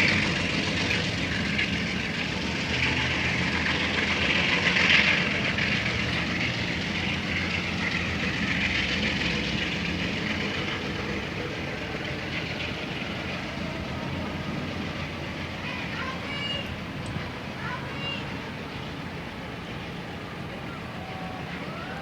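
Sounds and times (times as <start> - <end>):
diesel locomotive running: 0.0 - 22.0
train wheels rumbling on rails: 0.0 - 22.0.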